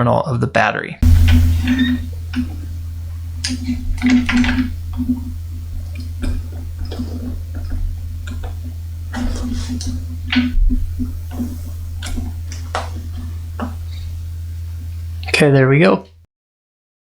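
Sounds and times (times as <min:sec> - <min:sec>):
soldering ticks and scrapes: 0:01.0 - 0:15.3
steady low hum: 0:01.0 - 0:16.2.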